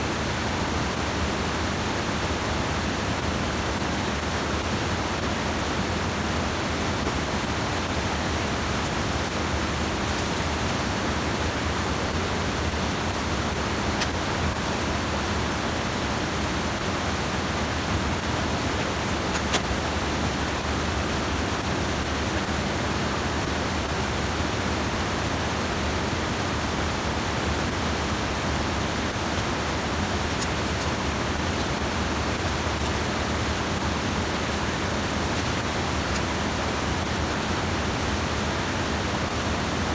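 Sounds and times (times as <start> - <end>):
stream water spilling over dam: 0.0 - 39.9.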